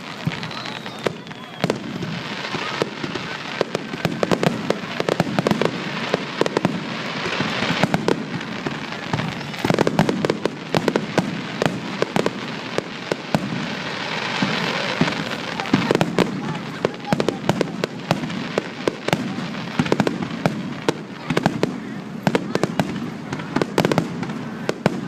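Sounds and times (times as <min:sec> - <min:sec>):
continuous noisy rush: 0:00.0 - 0:25.0
fireworks crackling and banging: 0:00.0 - 0:25.0.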